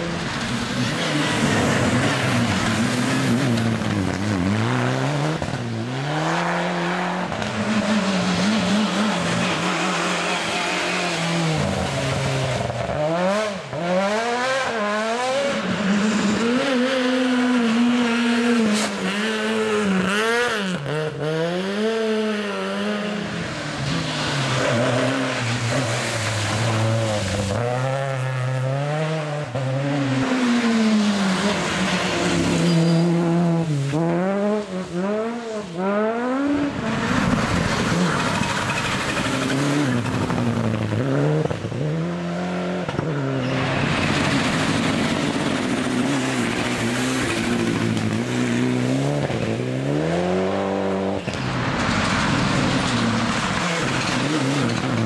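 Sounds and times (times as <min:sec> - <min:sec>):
rally car engines braking and accelerating: 0:00.0 - 0:55.0.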